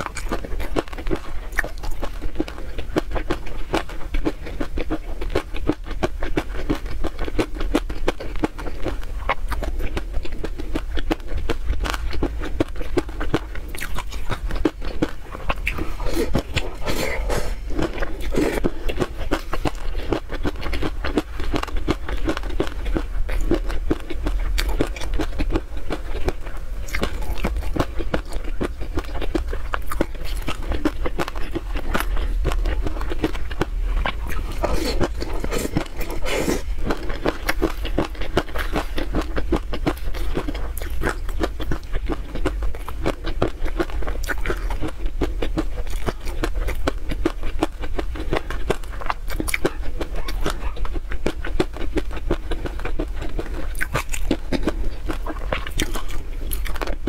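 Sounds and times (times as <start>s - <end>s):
chewing: 0.0s - 57.0s
crunching peanut bits: 0.0s - 57.0s.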